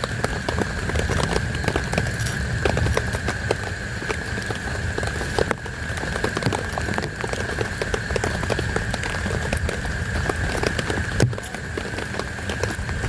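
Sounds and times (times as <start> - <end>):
heavy rain falling: 0.0 - 13.0
raindrops ticking on a surface: 0.0 - 13.0.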